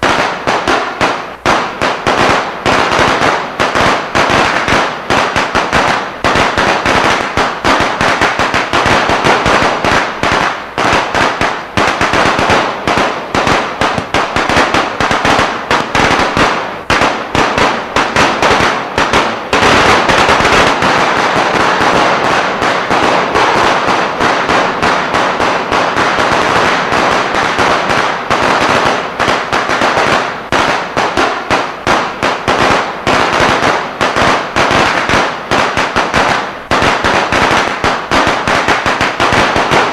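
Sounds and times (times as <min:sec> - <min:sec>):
rapid firecracker bangs: 0:00.0 - 0:39.9.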